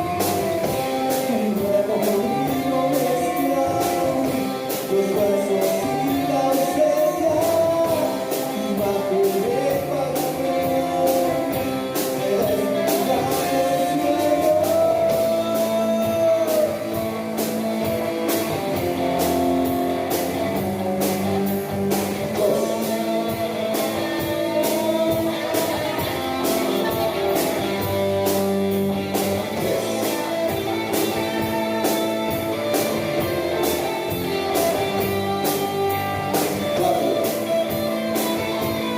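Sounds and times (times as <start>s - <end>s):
drums: 0.0s - 38.9s
electric guitar: 0.0s - 38.9s
person singing: 0.0s - 38.9s.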